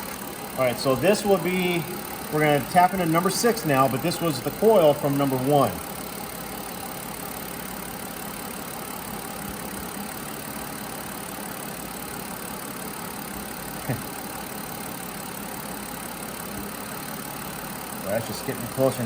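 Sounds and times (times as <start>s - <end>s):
misfiring car engine idling: 0.0s - 19.0s.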